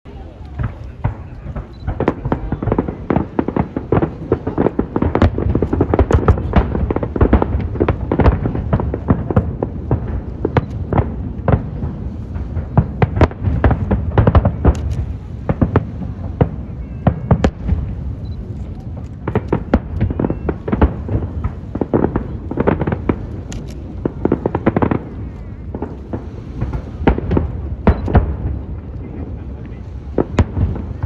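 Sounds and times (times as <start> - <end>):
fireworks bangs and crackles: 0.1 - 31.0.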